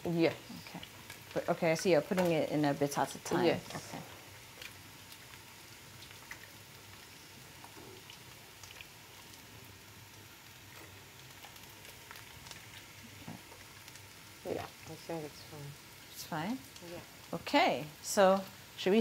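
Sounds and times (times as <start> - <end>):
sauce simmering in a pot: 0.0 - 19.0.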